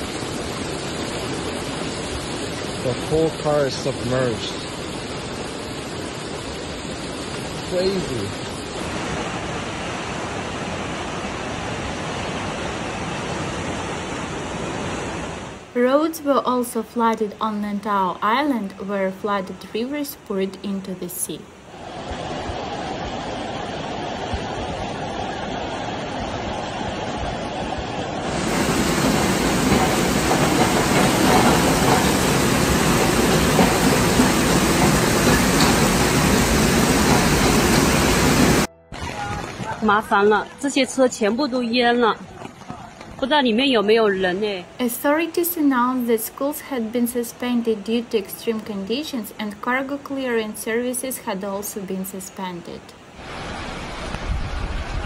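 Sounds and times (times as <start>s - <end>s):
floodwater rushing: 0.0s - 55.0s
torrential rain: 0.0s - 55.0s.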